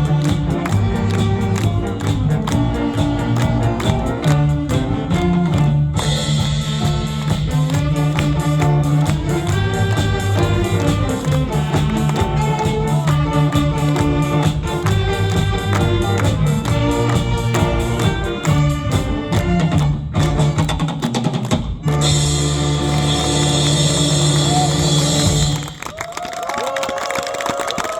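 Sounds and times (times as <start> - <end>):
drum kit: 0.0 - 25.9
saxophone big band playing: 0.0 - 25.9.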